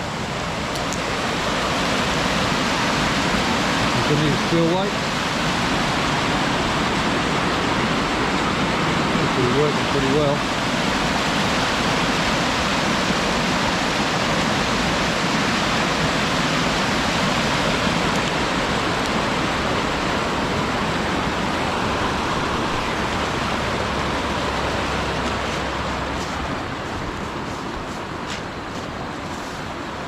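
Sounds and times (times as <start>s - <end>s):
water rushing down spillway: 0.0s - 30.0s.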